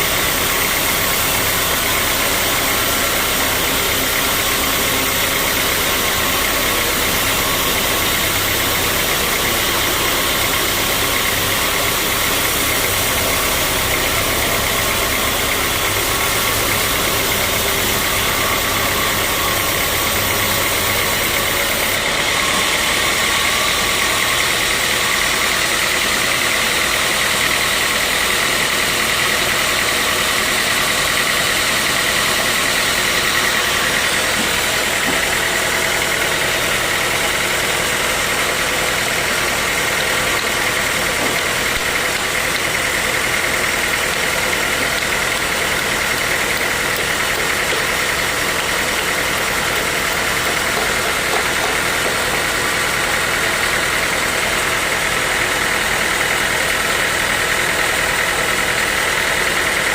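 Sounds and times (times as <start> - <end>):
sawmill saw whining: 0.0 - 59.9.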